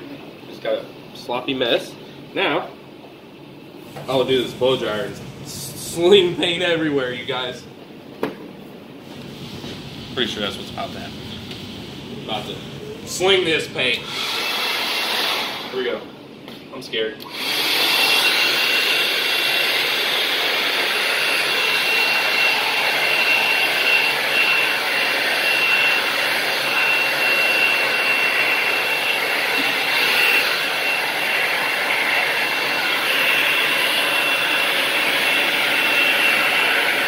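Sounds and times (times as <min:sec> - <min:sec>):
hair dryer running: 0:03.8 - 0:07.7, 0:09.0 - 0:16.0, 0:17.2 - 0:37.0.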